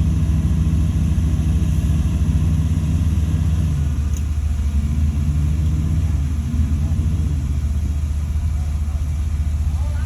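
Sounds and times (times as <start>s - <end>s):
large diesel engine running: 0.0s - 10.0s.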